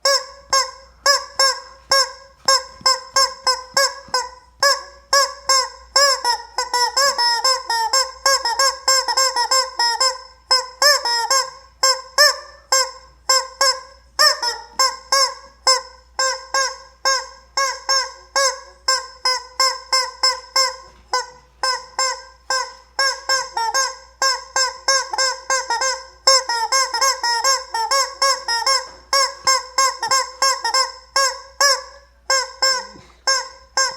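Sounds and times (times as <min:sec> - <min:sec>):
rubber chicken toy squawking: 0:00.0 - 0:33.9.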